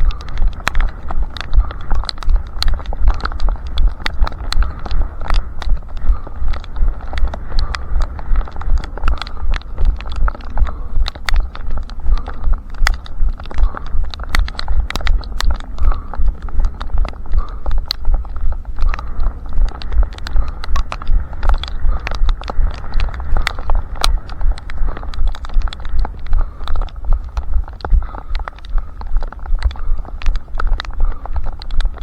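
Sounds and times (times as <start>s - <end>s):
runner's footsteps: 0.0s - 32.0s.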